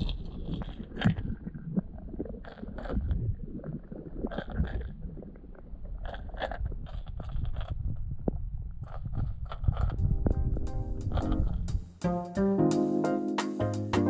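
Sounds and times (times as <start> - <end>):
muffled underwater rumble: 0.0 - 11.8.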